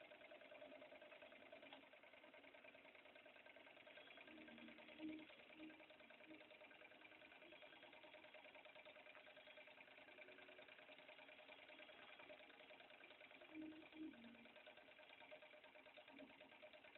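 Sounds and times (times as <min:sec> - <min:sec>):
fast mechanical ticking: 0:00.0 - 0:16.9
steady engine hum: 0:00.0 - 0:16.9.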